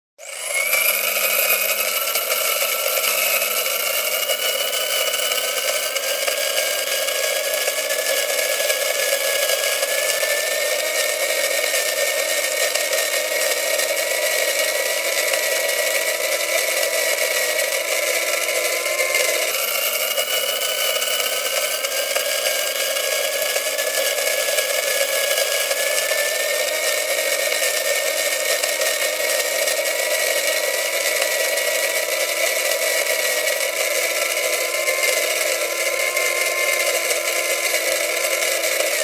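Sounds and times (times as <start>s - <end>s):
coffee grinder grinding beans: 0.2s - 39.0s.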